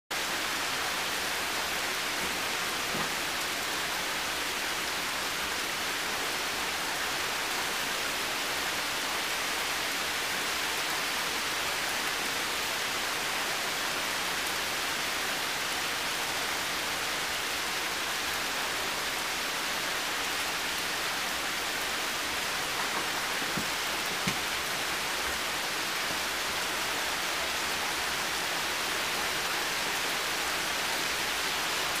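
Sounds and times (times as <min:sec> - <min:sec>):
heavy rain in forest: 0:00.1 - 0:32.0.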